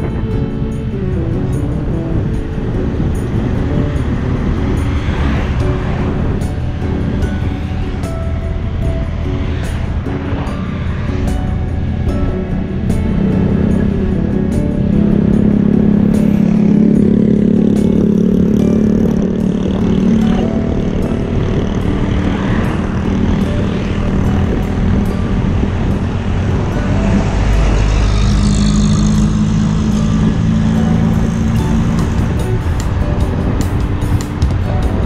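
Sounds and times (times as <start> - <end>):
motorbike engine running: 0.0 - 35.0
wind rumbling on microphone: 0.0 - 35.0.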